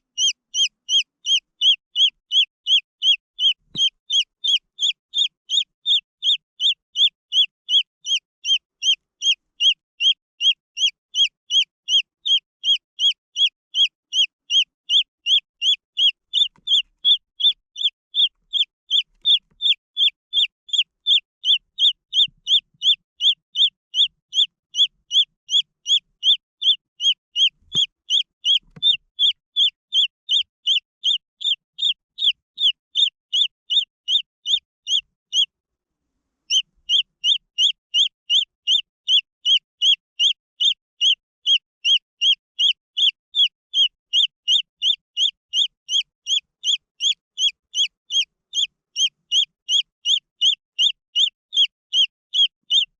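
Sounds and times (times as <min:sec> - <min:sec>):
chick peeping: 0:00.0 - 0:35.5, 0:36.5 - 0:52.9.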